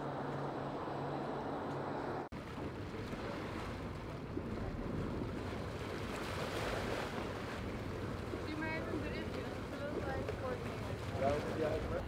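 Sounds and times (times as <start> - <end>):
propeller churning water: 0.0 - 12.0.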